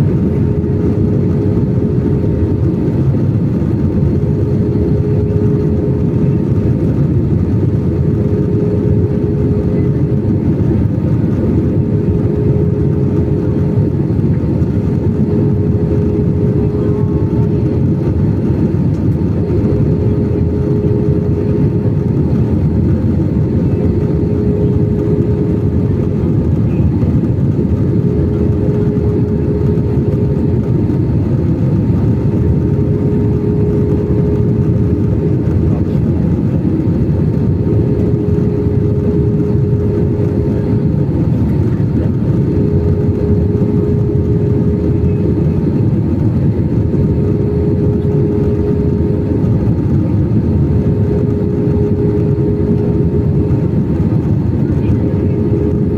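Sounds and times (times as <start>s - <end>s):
airliner engines and airflow rush: 0.0s - 55.9s
steady cabin hum: 0.0s - 55.9s.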